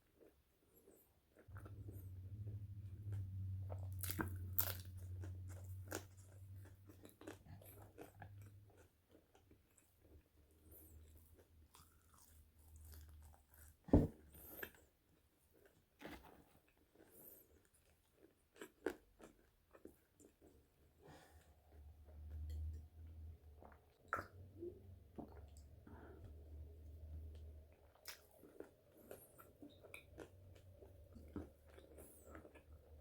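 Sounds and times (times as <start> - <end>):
chewing crispy fries: 0.0 - 13.8, 15.5 - 22.8, 27.3 - 33.0.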